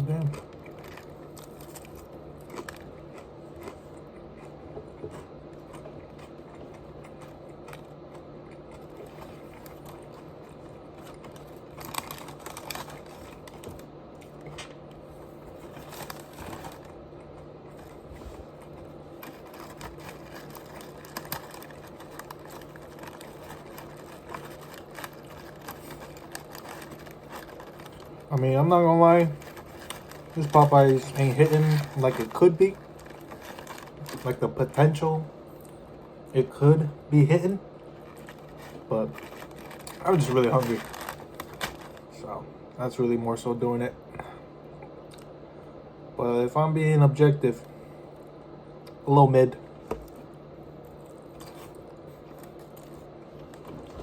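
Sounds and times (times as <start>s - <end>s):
chewing crispy fried chicken: 0.0s - 36.6s, 37.5s - 42.3s, 49.6s - 54.0s
steady low hum: 0.0s - 54.0s.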